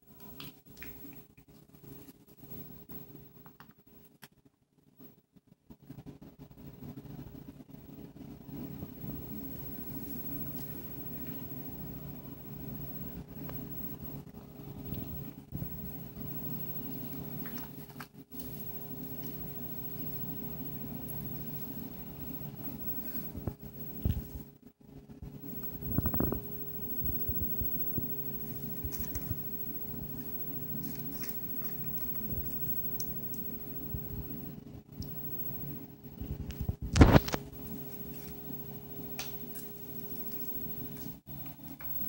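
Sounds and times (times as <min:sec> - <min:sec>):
steady low hum: 0:04.8 - 0:42.0.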